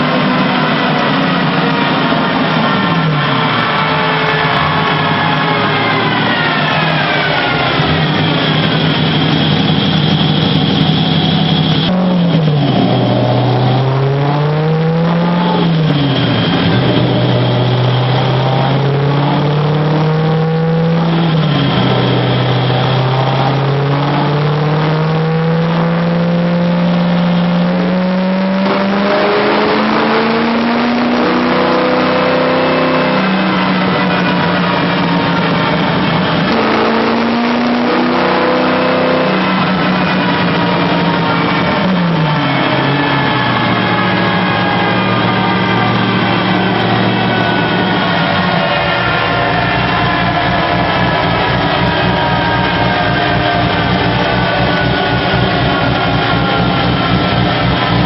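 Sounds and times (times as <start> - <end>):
engine running under load: 0.0 - 58.0.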